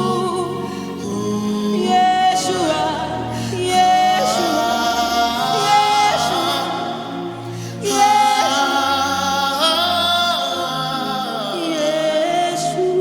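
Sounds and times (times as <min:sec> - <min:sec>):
person singing long wordless notes: 0:00.0 - 0:13.0.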